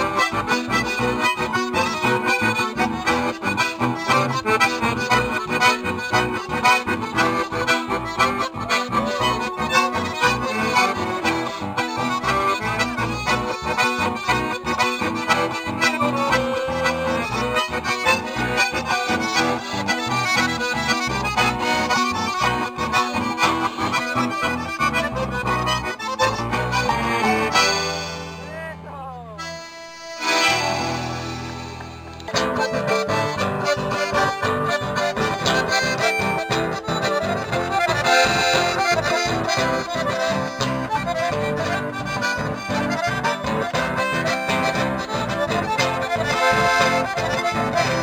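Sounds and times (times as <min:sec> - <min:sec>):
strummed acoustic guitars: 0:00.0 - 0:28.6, 0:29.5 - 0:48.0
accordions playing melody: 0:00.0 - 0:48.0.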